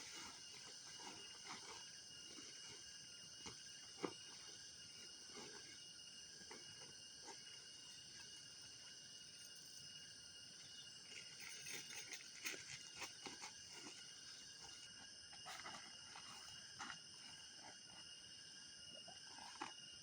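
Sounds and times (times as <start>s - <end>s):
night insects chorus: 0.0s - 20.0s.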